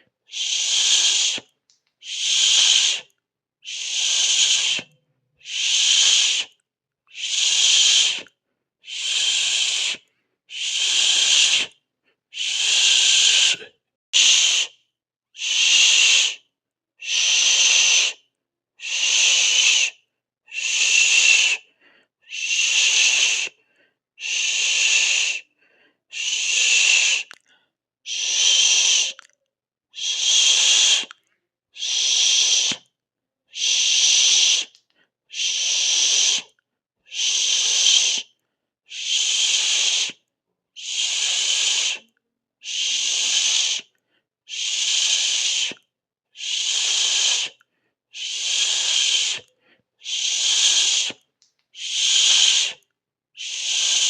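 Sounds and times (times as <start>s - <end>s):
person hissing through mouth: 0.3s - 14.8s, 15.4s - 23.6s, 24.2s - 25.5s, 26.1s - 27.4s, 28.1s - 29.3s, 30.0s - 31.2s, 31.8s - 32.9s, 33.5s - 40.2s, 40.8s - 54.0s.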